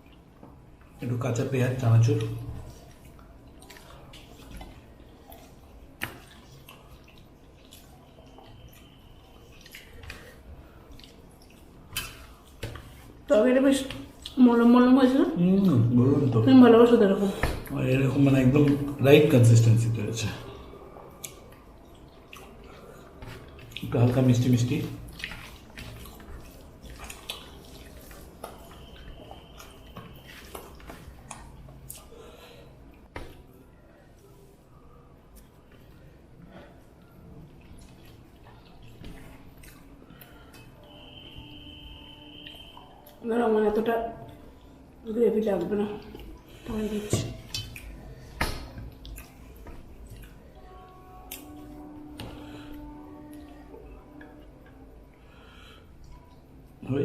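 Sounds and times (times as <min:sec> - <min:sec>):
wet chewing sounds: 0:02.1 - 0:14.5, 0:20.2 - 0:43.2, 0:45.6 - 0:56.8.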